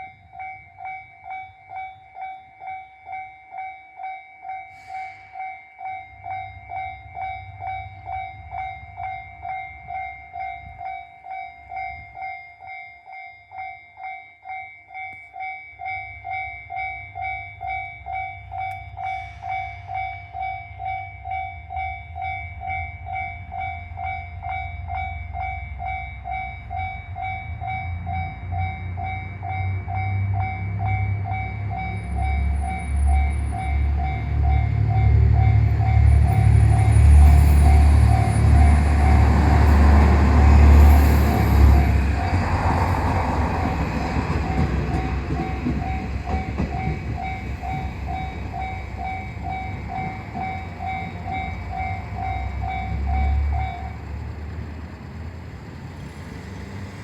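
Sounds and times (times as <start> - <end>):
level-crossing warning bell: 0.0 - 57.0
diesel railcar rumble: 4.6 - 12.3, 16.1 - 57.0.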